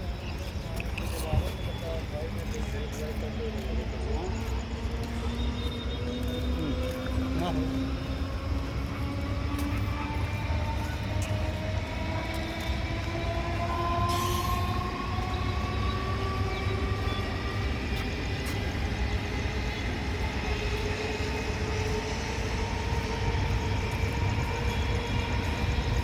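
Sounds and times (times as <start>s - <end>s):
train rumbling: 0.0s - 26.0s
train whining tones rising: 0.0s - 26.0s.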